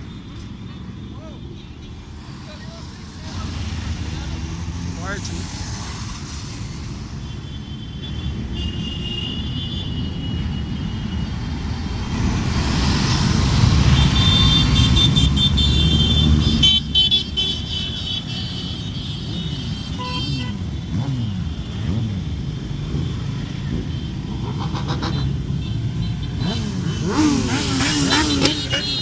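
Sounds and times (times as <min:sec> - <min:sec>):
horns tooting: 0:00.0 - 0:05.7, 0:06.7 - 0:11.4, 0:13.6 - 0:29.0
traffic passing: 0:00.0 - 0:29.0.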